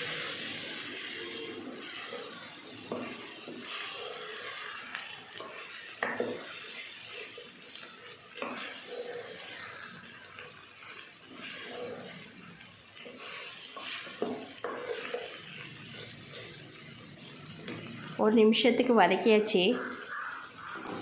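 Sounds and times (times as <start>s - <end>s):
spoon stirring and scraping pan: 0.0s - 18.2s
faint sizzle: 0.0s - 21.0s.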